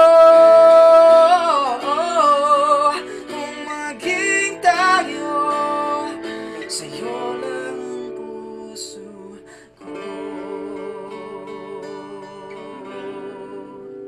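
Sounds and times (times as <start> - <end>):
guitar accompaniment: 0.0 - 14.0
person singing: 0.0 - 14.0.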